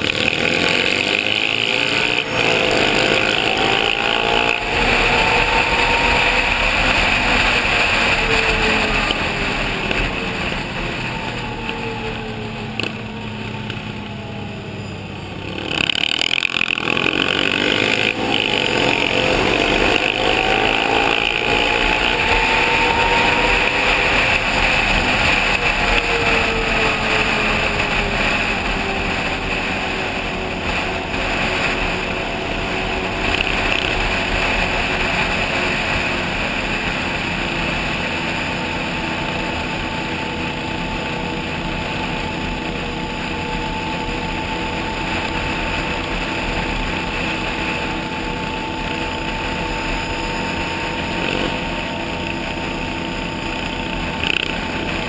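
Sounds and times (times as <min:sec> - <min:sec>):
atv engine accelerating: 0:00.0 - 0:55.0
rushing noise: 0:00.0 - 0:55.0.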